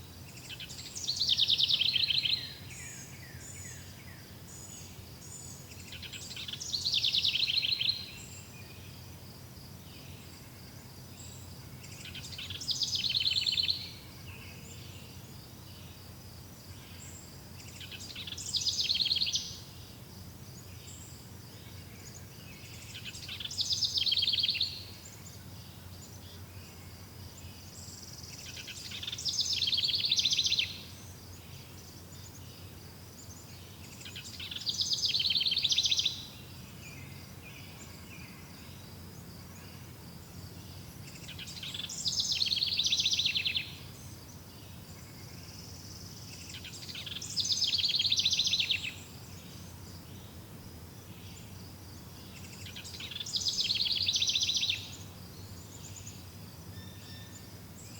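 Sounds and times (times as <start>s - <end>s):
steady outdoor hiss: 0.0s - 57.9s.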